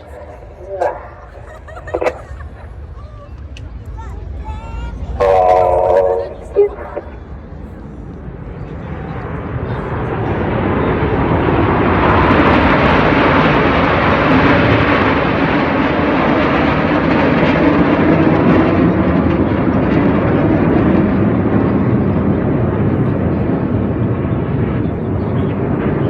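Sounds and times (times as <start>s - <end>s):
jets flying past: 0.0s - 26.0s.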